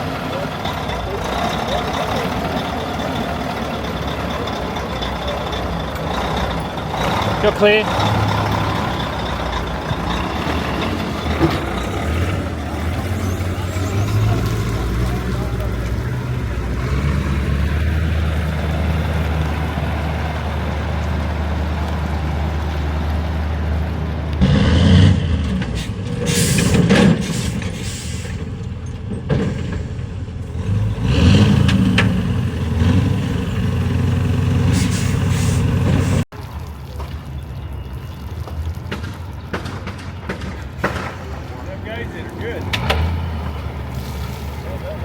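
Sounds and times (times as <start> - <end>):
truck engine running: 0.0 - 36.3, 39.6 - 45.0.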